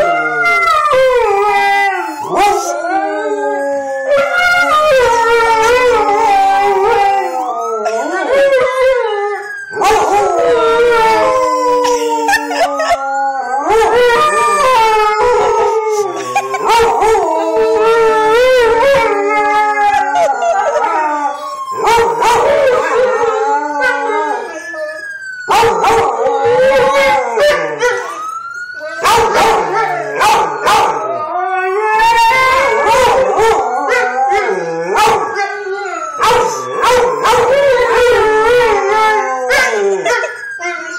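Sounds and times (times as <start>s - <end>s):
dogs howling: 0.0s - 40.9s
emergency vehicle siren: 0.0s - 40.9s.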